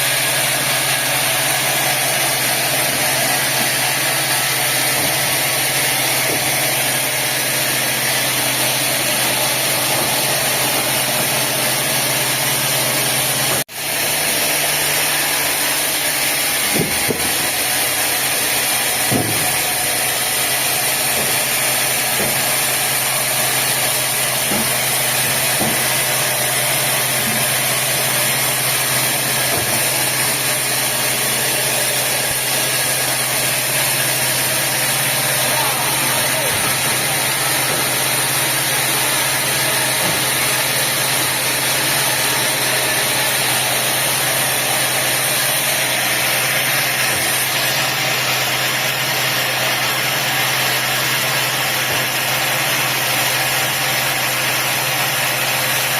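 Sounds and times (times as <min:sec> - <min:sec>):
sawmill machinery hum: 0:00.0 - 0:55.9.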